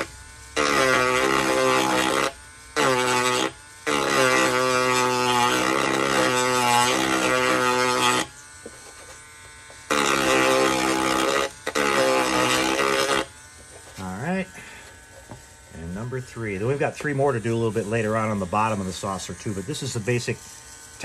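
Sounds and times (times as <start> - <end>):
rotary tool grinding whine: 0.0 - 21.0.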